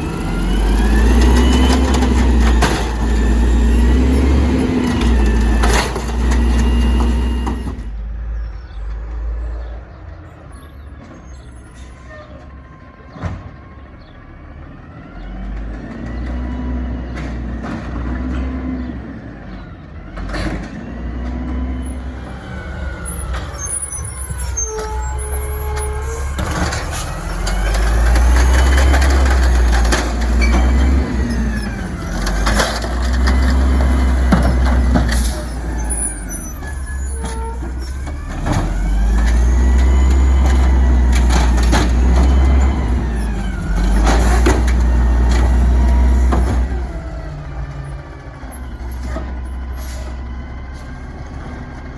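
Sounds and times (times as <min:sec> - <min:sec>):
garbage truck engine revving: 0:00.0 - 0:09.7, 0:13.6 - 0:51.9.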